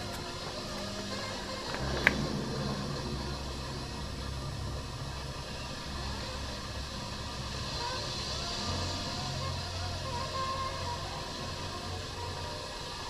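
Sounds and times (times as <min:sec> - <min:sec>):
low hum: 0:00.0 - 0:13.0
steady hiss: 0:00.0 - 0:13.0.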